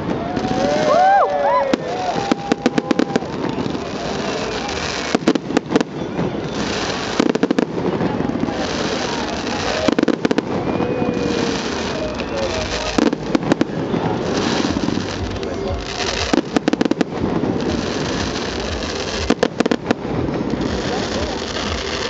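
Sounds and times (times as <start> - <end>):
fireworks crackling bangs: 0.0 - 22.0.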